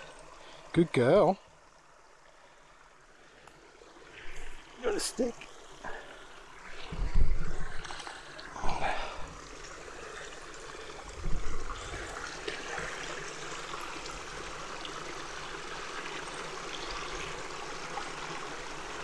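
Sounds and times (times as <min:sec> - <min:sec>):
water sloshing and splashing: 0:03.4 - 0:19.0.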